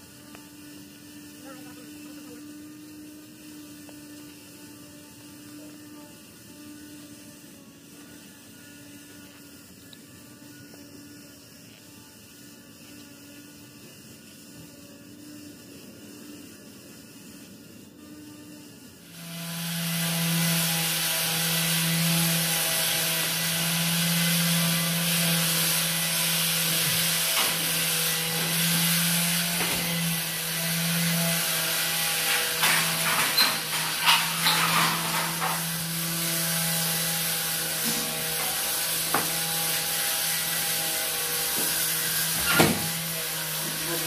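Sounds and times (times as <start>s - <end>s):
machine hum and hiss: 0.0s - 44.0s.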